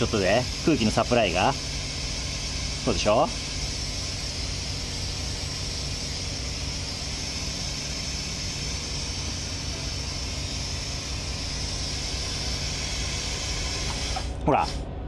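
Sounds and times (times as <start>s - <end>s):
compressed air hissing: 0.0s - 14.8s
steady low hum: 0.0s - 15.0s.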